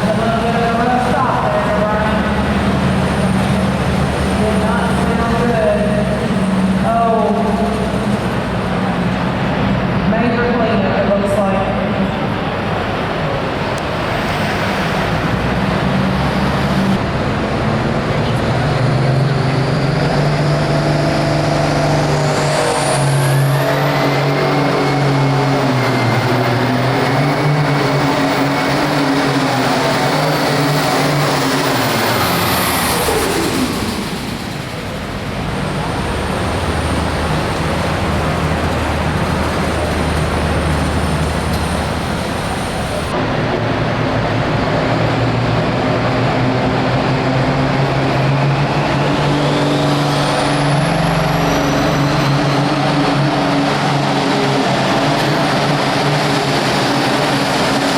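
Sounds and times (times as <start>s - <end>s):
diesel tractor engine under load: 0.0s - 57.9s.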